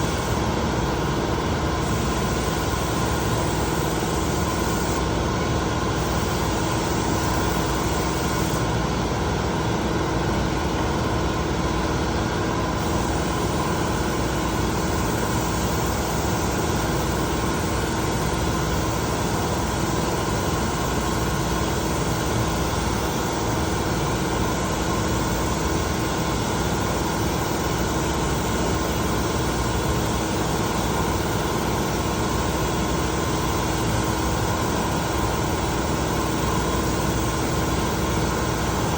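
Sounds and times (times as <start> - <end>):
mechanical hum: 0.0 - 38.9.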